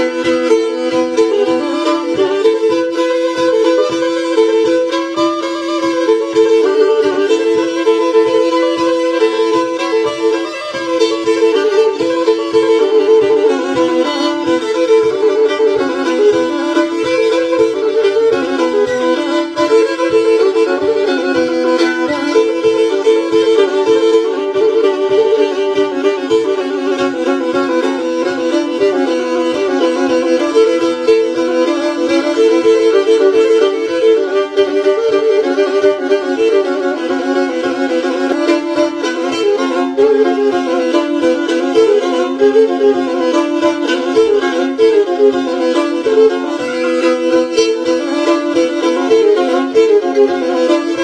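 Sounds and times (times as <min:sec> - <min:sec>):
bowed fiddle folk tune: 0:00.0 - 0:51.0.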